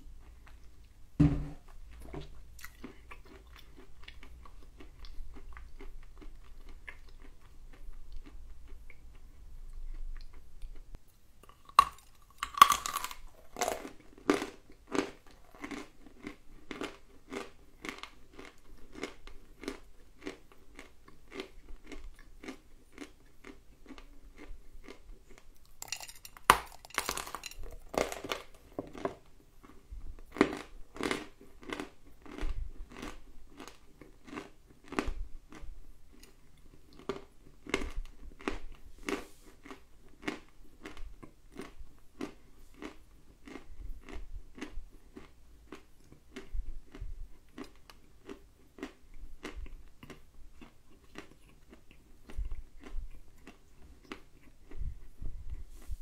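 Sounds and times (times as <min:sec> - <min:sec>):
chewing and crunching clay: 0:02.6 - 0:55.6.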